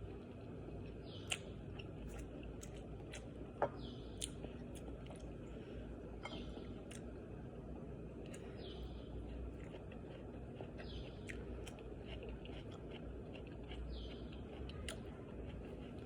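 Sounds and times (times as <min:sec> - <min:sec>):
person chewing and eating: 0:00.0 - 0:16.0.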